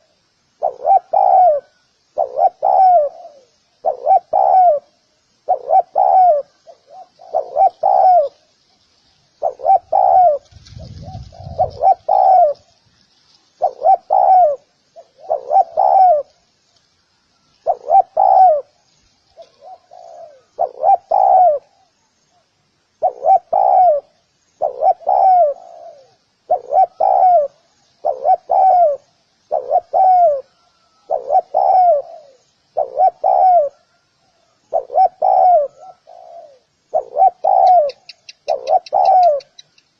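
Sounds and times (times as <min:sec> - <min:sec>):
dove cooing: 0:00.0 - 0:08.5, 0:09.4 - 0:12.8, 0:13.6 - 0:16.4, 0:17.4 - 0:39.8.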